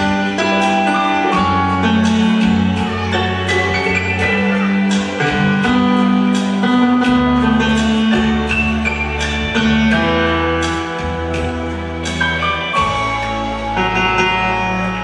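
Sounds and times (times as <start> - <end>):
long held bass notes: 0.0 - 15.0
plucked melody: 0.0 - 15.0.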